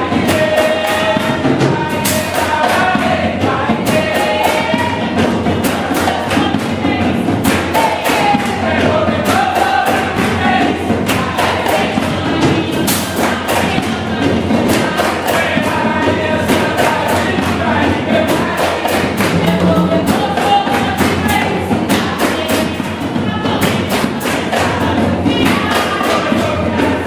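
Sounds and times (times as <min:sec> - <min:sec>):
group of voices singing: 0:00.0 - 0:27.0
hand drums and drum kit: 0:00.0 - 0:27.0.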